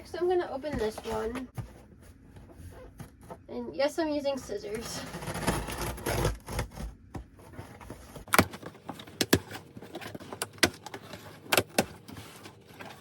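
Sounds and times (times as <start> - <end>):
cardboard handling rustle: 0.6 - 3.5, 4.5 - 13.0.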